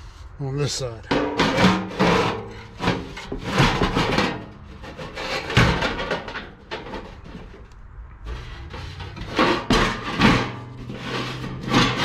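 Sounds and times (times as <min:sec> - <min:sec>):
metal wheel scraping and knocking: 0:01.0 - 0:12.0.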